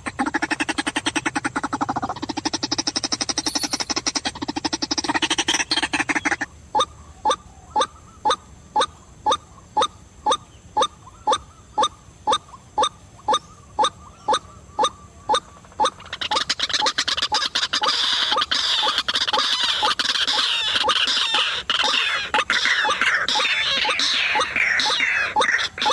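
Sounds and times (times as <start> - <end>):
harsh rapid bird chatter: 0.0 - 25.9
waterhen calling kwak: 0.0 - 25.9.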